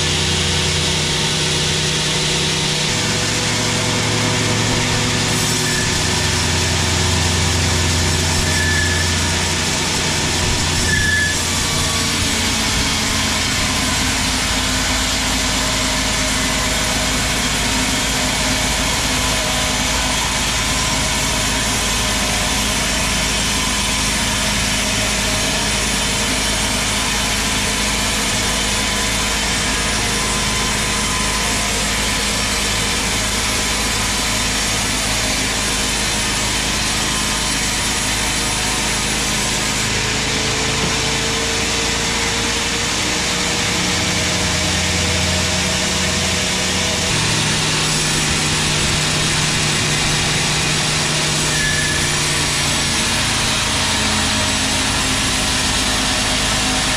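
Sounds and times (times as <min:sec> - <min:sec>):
band saw cutting wood: 0:00.0 - 0:56.9.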